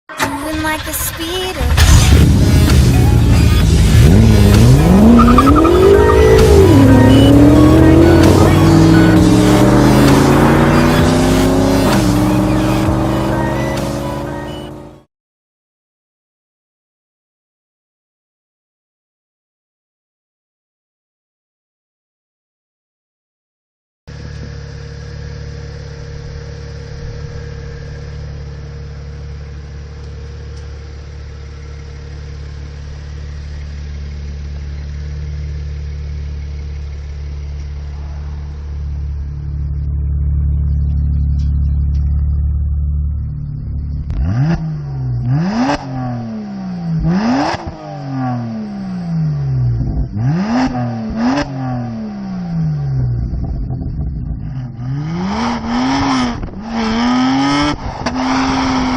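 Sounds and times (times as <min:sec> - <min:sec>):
car exhaust idling and revving: 0:01.8 - 0:15.0, 0:24.1 - 0:58.9.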